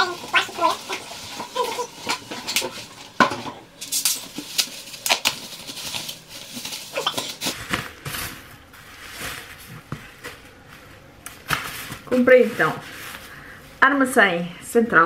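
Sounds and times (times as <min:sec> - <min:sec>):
packing paper rustling: 0:00.0 - 0:13.5.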